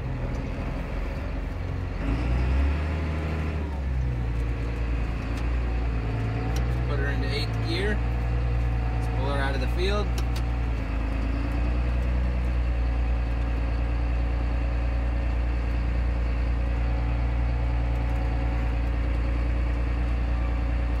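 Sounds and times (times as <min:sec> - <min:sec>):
tractor diesel engine drone: 0:00.0 - 0:21.0.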